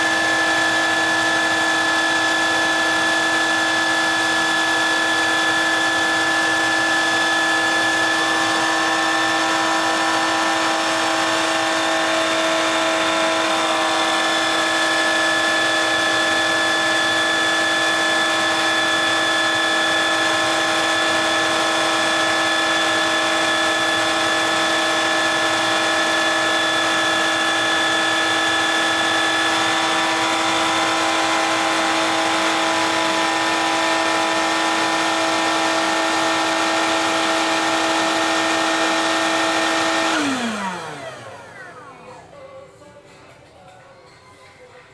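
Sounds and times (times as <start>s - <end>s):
brush roller spinning on wet floor: 0.0s - 41.5s
wet vacuum cleaner motor whine: 0.0s - 42.3s.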